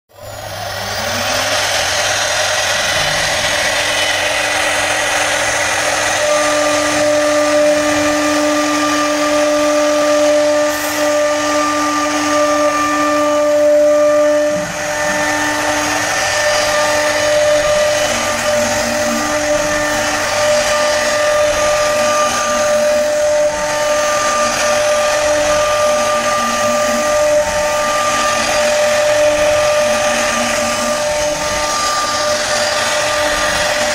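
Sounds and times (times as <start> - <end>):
power carving tool whining: 0.1 - 33.9.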